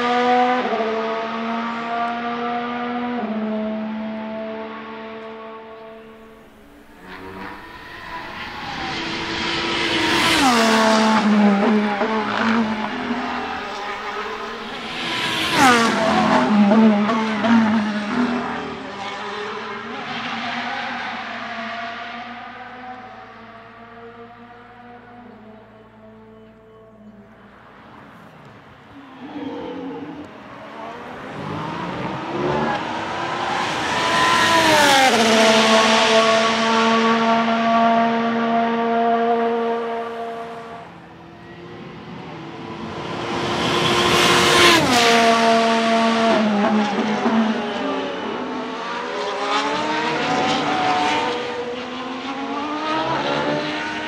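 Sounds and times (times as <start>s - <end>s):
racing car engine passing: 0.0s - 54.0s.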